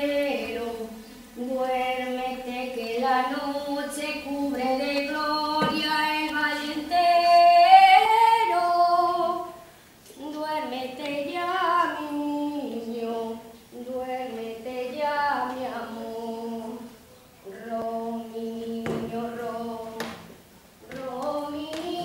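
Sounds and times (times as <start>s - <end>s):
woman singing a lullaby: 0.0s - 20.1s.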